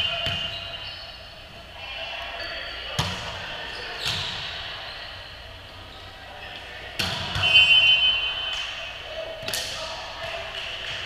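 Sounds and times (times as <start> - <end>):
players' voices: 0.0 - 11.0.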